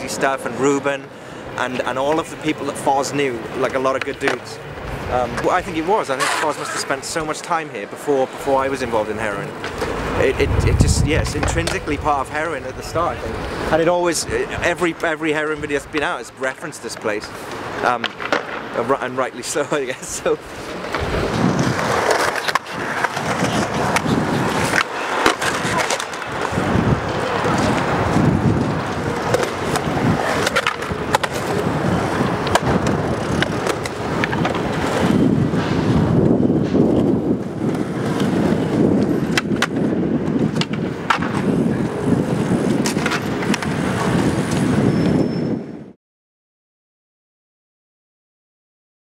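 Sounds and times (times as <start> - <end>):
skateboards clacking on ground: 0.0 - 45.1
skateboard wheels rolling on concrete: 0.0 - 46.0.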